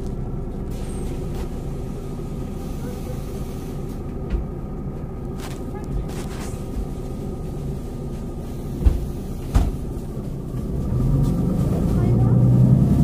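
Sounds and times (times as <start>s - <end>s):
bus diesel engine idling: 0.0s - 13.0s.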